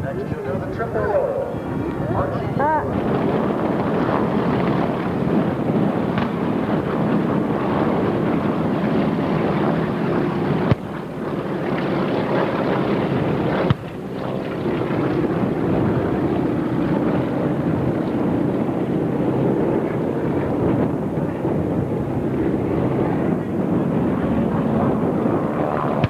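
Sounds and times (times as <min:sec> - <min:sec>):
distant engine drone: 0:00.0 - 0:26.0
wind on microphone: 0:00.0 - 0:26.0.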